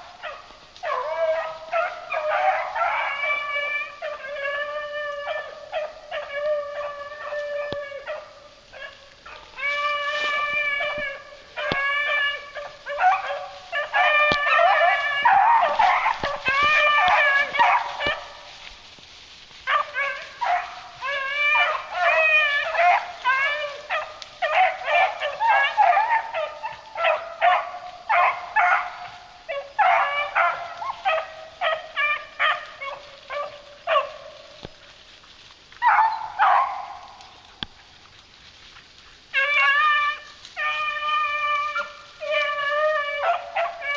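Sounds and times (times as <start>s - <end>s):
hounds baying: 0.0s - 18.8s, 19.5s - 35.0s, 35.7s - 38.1s, 39.1s - 43.9s.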